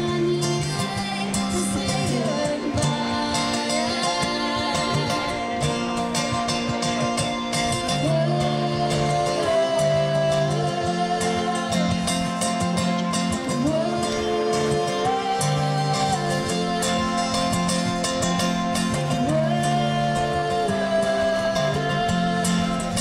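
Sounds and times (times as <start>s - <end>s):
person singing: 0.0s - 7.1s, 7.7s - 23.0s
strummed acoustic guitars: 0.0s - 23.0s.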